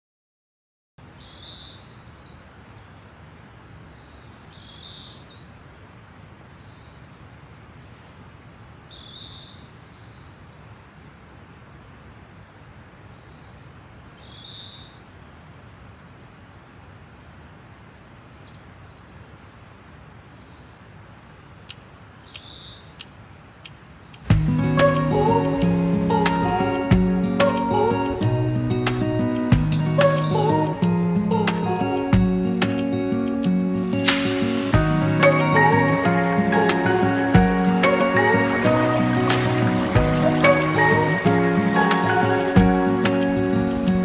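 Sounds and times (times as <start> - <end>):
faint outdoor hiss: 1.0 - 44.0.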